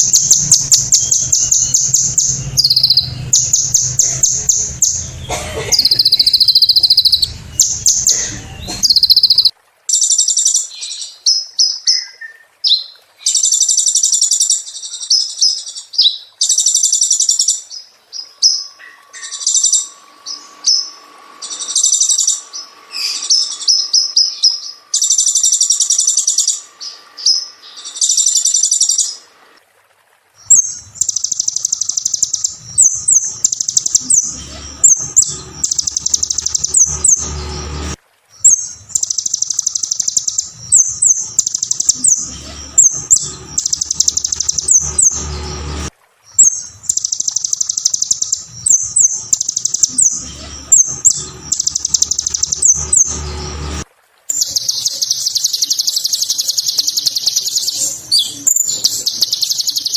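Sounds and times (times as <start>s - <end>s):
sunbird singing rapid trills: 0.0s - 29.2s, 30.4s - 59.9s.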